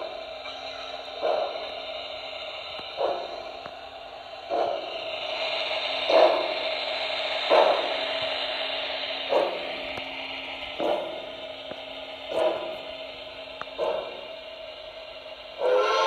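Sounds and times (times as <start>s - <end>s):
steady hiss and hum: 0.0s - 16.0s
steam exhaust chuffs: 0.0s - 16.0s.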